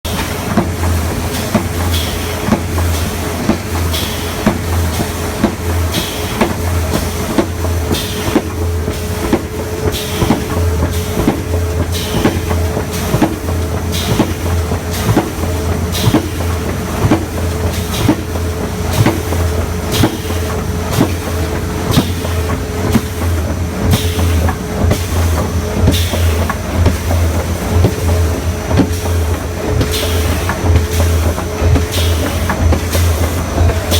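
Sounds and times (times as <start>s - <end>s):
low motor hum: 0.1s - 33.9s
machinery clacking: 0.1s - 33.9s.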